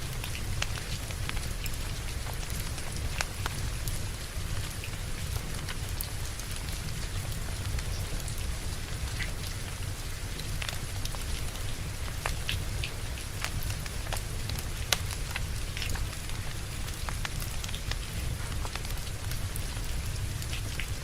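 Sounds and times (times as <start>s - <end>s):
steady rain falling: 0.0s - 21.0s
wood fire crackling: 0.0s - 21.0s.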